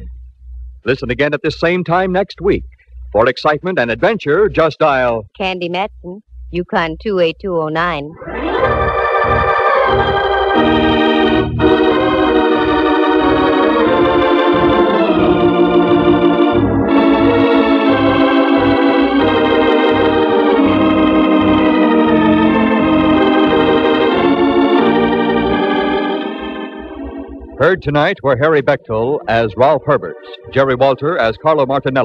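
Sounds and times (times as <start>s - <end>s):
organ playing sustained chords: 0.9s - 5.1s, 8.2s - 32.0s.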